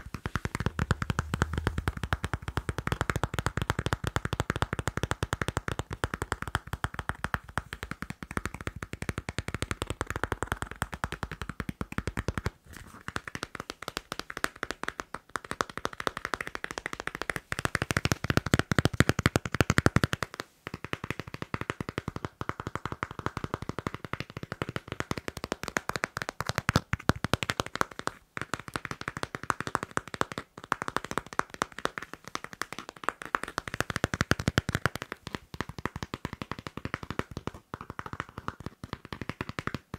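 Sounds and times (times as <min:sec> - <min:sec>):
fast tapping on a passport: 0:00.0 - 0:39.9.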